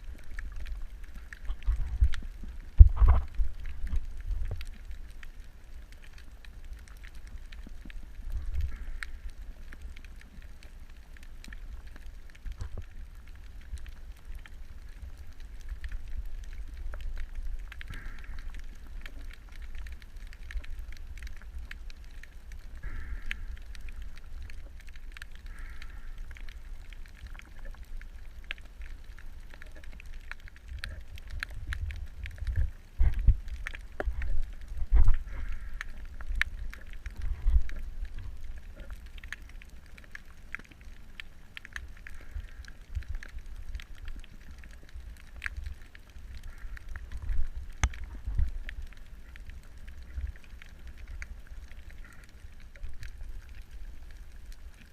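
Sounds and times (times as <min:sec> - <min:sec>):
crackling clicks: 0:00.0 - 0:54.9
underwater rumble: 0:00.0 - 0:54.9.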